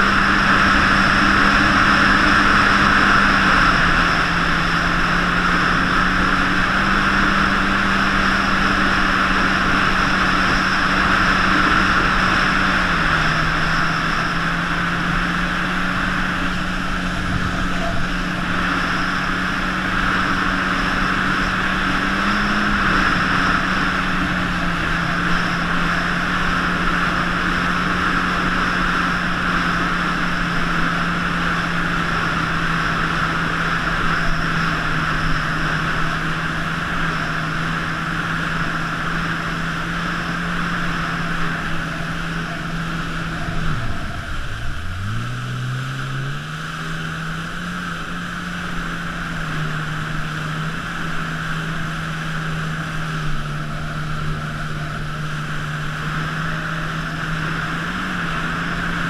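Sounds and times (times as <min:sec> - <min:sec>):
jet ski engine droning: 0:00.0 - 0:59.0.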